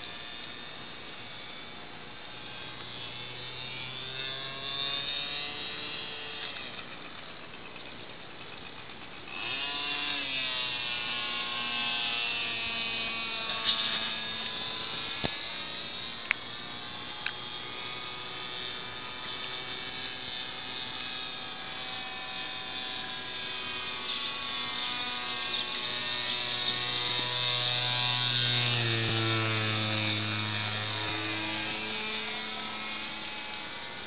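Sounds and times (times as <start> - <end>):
model airplane motor buzzing: 0.0 - 34.0.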